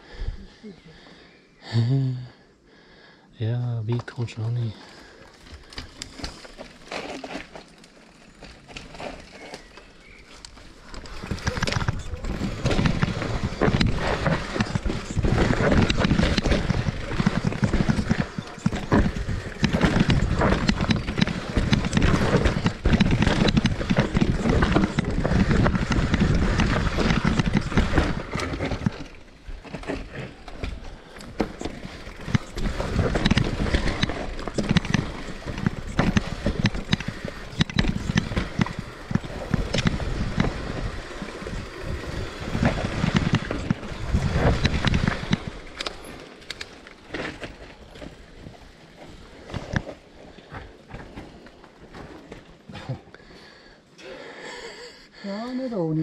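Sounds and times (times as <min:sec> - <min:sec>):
tyres on dirt trail: 0:00.0 - 0:56.0
bike knocks and rattles: 0:05.4 - 0:53.0.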